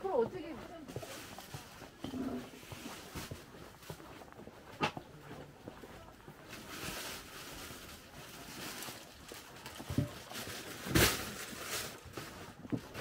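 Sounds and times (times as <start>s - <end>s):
indoor market hubbub: 0.0s - 13.0s.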